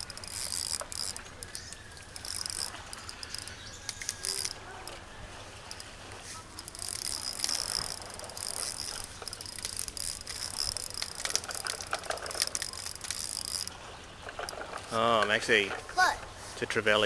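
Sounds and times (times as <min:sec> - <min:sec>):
fishing reel ticking whirr: 0:00.0 - 0:15.8.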